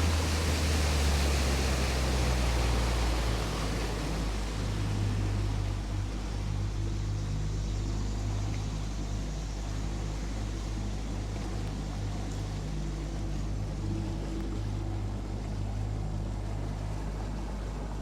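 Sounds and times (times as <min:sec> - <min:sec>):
boat motor humming: 0:00.0 - 0:18.0.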